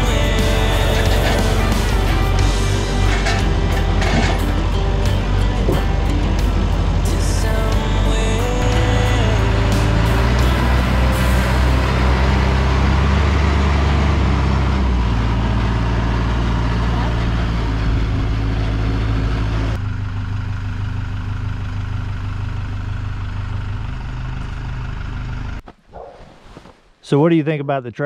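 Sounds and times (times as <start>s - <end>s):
tractor diesel engine running: 0.0s - 26.5s.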